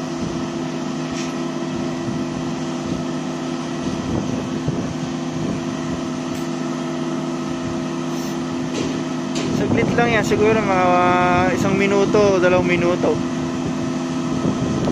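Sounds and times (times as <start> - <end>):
auger unloading grain hiss: 0.0 - 14.9
harvester engine humming: 0.0 - 14.9.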